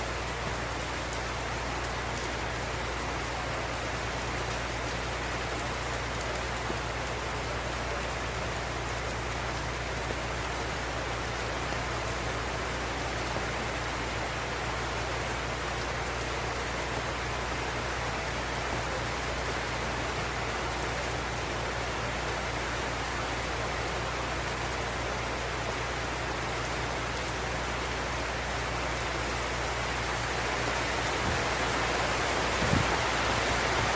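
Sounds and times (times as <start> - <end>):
steady rain hiss: 0.0 - 33.9.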